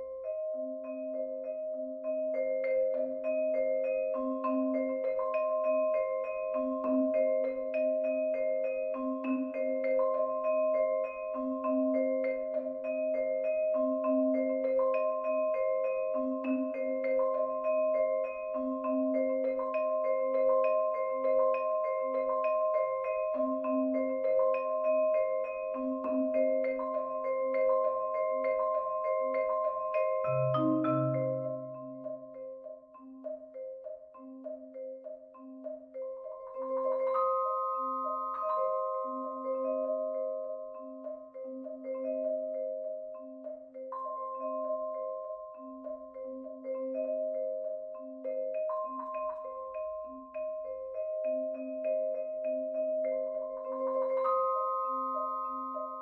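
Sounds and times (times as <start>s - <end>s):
marimba mallet patterns: 0.0s - 56.0s
ringing vibraphone tones: 0.0s - 56.0s.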